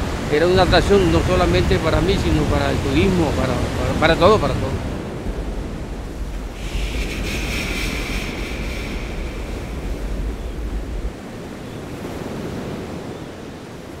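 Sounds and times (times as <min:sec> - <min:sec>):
sea waves washing on shore: 0:00.0 - 0:14.0
wind rumbling on microphone: 0:00.0 - 0:14.0.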